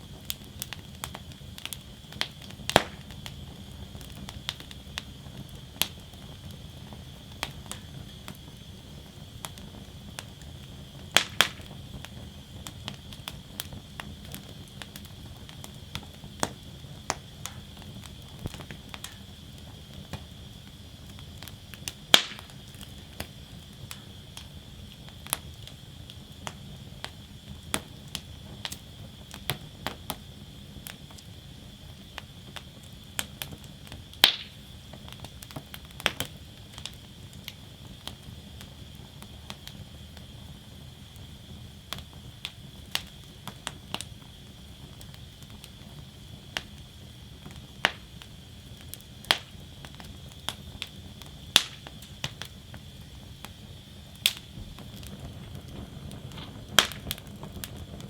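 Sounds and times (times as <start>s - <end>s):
loud sharp pops from fire: 0.0s - 58.0s
wood fire crackling: 0.0s - 58.0s.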